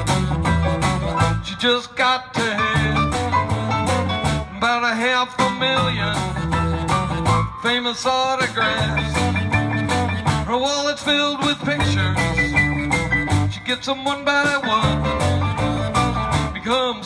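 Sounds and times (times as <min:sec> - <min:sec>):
guitar: 0:00.0 - 0:17.0
rock band playing: 0:00.0 - 0:17.0.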